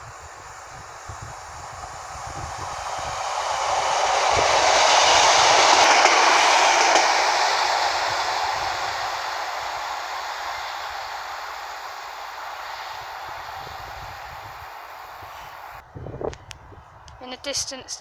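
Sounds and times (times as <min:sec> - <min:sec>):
passenger train passing: 0:00.0 - 0:16.8.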